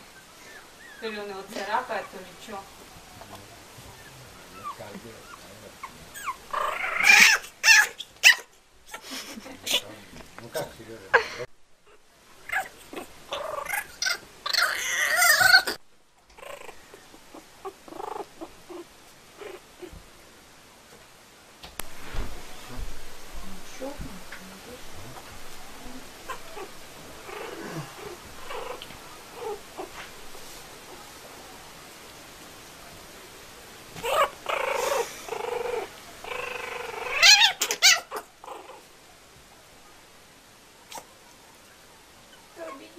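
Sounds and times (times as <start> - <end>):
kitten and puppy play-fighting sounds: 0.0 - 10.8, 11.9 - 20.1, 21.7 - 31.6, 33.9 - 38.9, 40.8 - 42.9.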